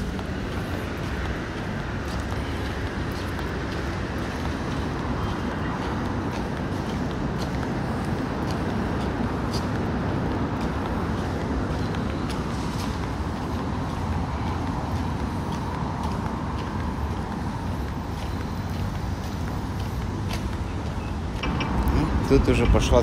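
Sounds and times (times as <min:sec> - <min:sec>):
city traffic rumble: 0:00.0 - 0:23.0
footsteps on paving: 0:00.0 - 0:23.0.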